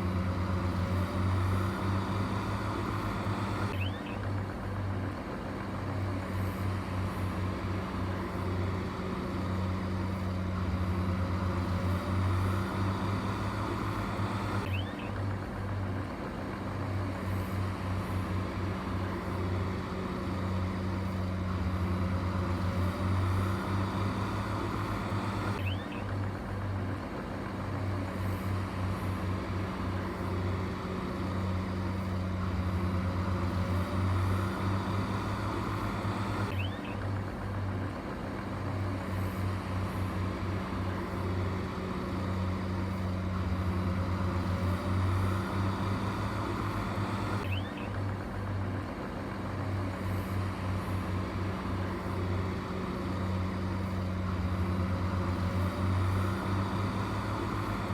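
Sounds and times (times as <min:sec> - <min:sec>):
heavy machine engine running: 0:00.0 - 0:57.9.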